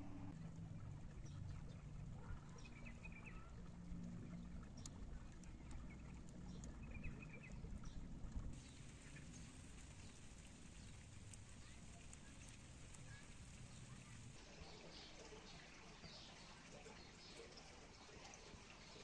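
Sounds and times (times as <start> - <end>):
shallow stream running: 0.0 - 19.0.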